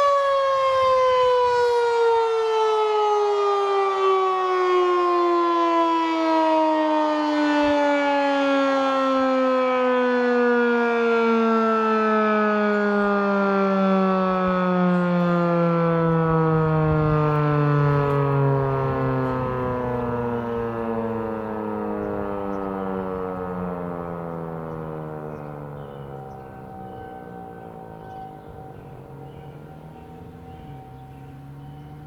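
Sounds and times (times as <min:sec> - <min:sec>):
warning siren winding down: 0:00.0 - 0:32.0.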